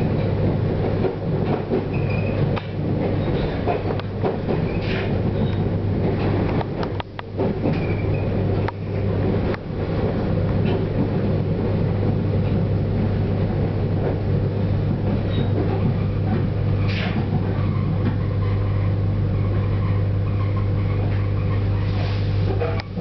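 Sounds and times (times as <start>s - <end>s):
train running hum: 0.0s - 23.0s
wheels rumbling on track: 0.0s - 23.0s.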